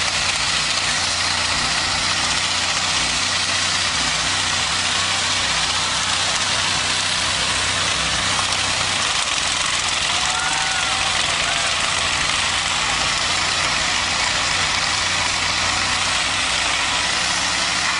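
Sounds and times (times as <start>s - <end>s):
engine at high revs: 0.0s - 17.9s
wheel rim grinding on pavement: 0.0s - 17.9s.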